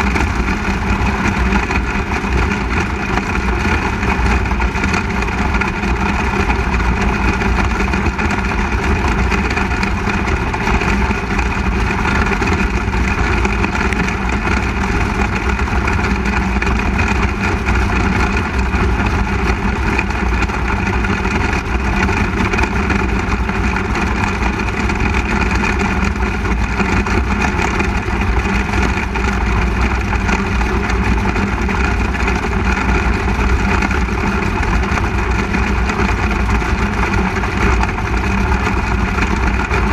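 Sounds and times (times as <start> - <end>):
other race car engines: 0.0 - 39.9
race car engine running: 0.0 - 39.9.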